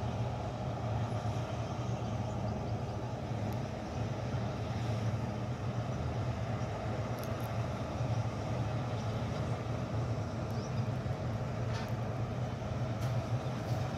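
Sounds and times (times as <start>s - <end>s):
combine harvester running: 0.0s - 13.9s.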